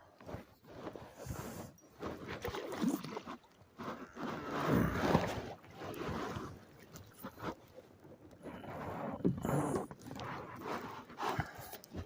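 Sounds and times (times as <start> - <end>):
water splashing around canoe: 0.2 - 12.0.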